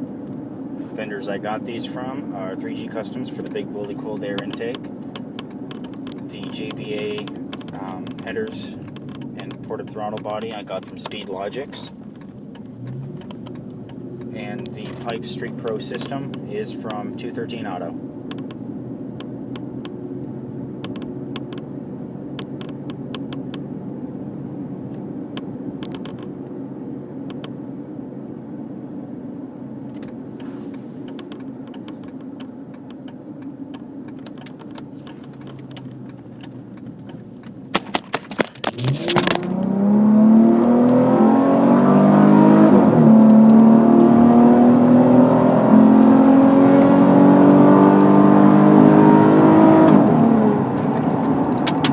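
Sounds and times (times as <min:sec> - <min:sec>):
car engine accelerating: 0:00.0 - 0:28.7, 0:29.6 - 0:51.9.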